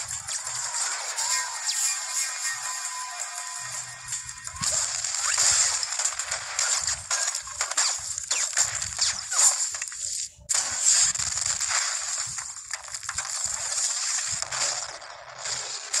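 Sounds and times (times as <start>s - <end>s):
explosions: 0.0s - 9.8s, 10.5s - 16.0s
rapid gunfire: 0.0s - 16.0s.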